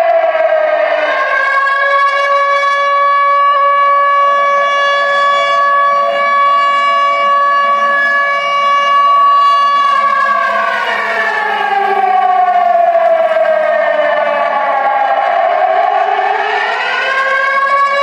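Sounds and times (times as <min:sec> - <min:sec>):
air raid siren steady pitch: 0:00.0 - 0:18.0.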